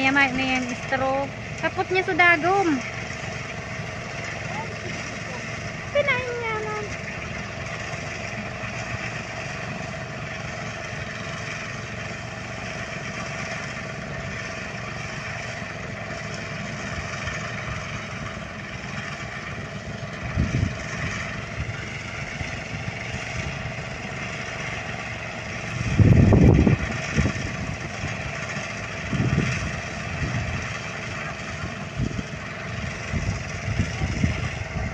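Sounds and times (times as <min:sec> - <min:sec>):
small engine running: 0:00.0 - 0:34.9.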